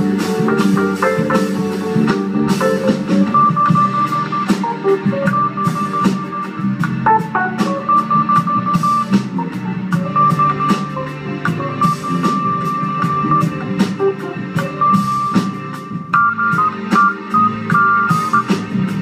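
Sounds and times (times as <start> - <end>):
drum kit: 0.0 - 19.0
guitar: 0.0 - 19.0
live jazz band playing: 0.0 - 19.0.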